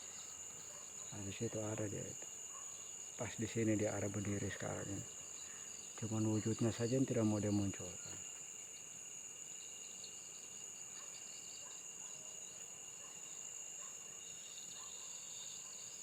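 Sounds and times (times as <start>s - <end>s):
insects trilling: 0.0s - 16.0s
pulsing cricket chirp: 0.0s - 16.0s.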